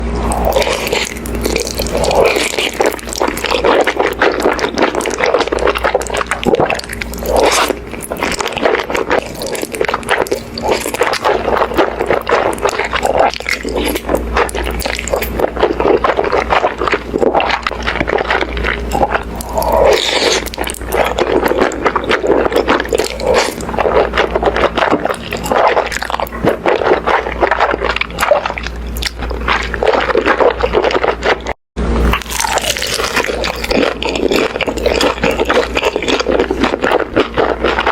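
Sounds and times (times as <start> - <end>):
wet chewing and crunching: 0.0 - 37.9.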